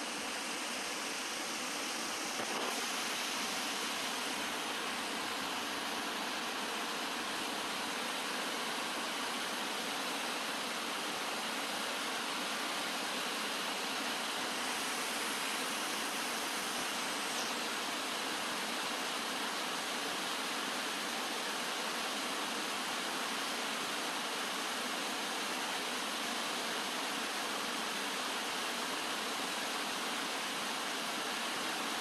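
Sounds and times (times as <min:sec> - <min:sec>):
stream running over stones: 0:00.0 - 0:32.0.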